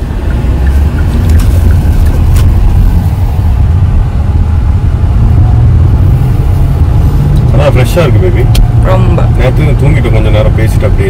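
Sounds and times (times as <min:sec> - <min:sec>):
road and wind noise in car: 0:00.0 - 0:11.0.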